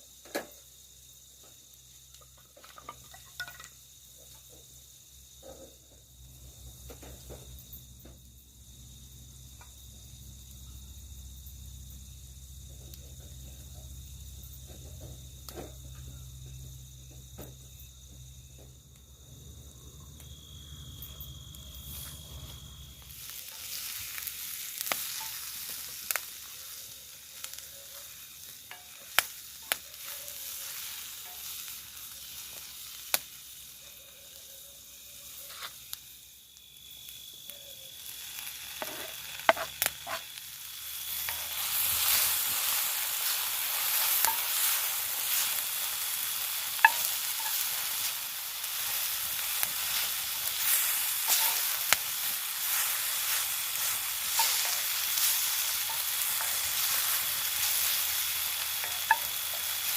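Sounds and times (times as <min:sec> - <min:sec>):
food sizzling in hot pan: 0:00.0 - 0:59.9.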